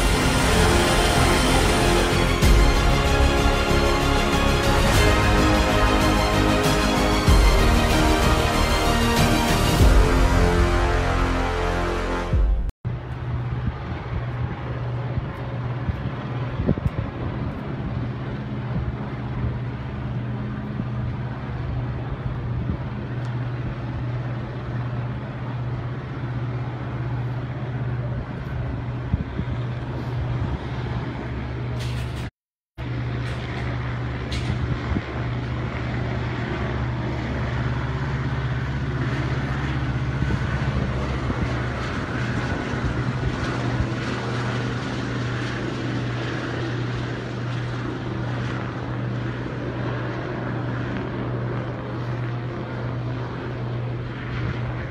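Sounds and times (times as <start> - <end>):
steady engine drone: 0.0 - 54.9.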